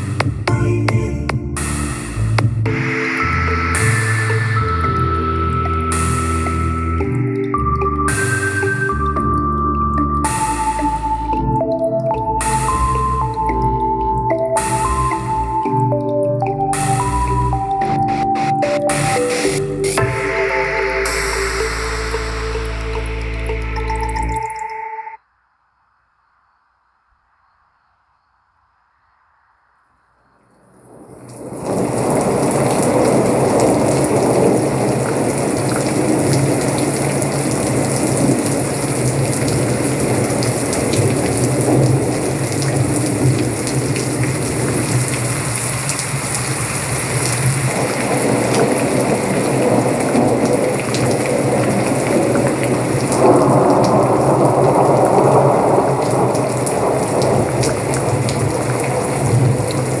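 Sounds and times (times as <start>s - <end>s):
rain through speaker: 0.0s - 25.2s, 29.8s - 60.0s.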